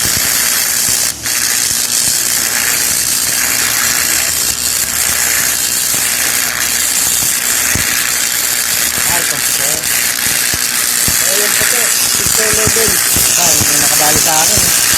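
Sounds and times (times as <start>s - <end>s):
arc welding crackling hiss: 0.0s - 14.9s.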